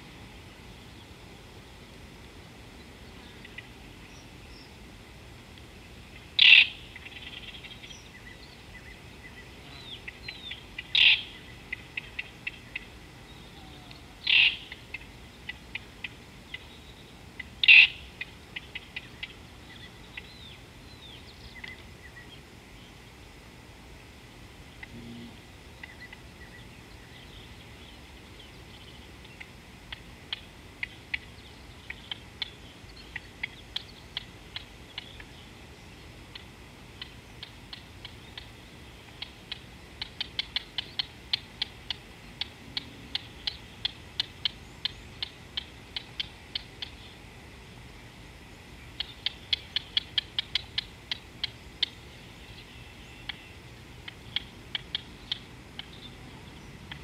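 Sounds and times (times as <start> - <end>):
low background hiss: 0.0 - 57.0.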